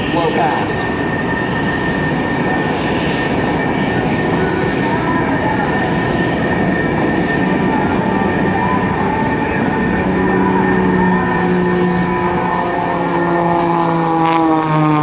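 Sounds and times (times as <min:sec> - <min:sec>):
plane piston engine drone: 0:00.0 - 0:15.0.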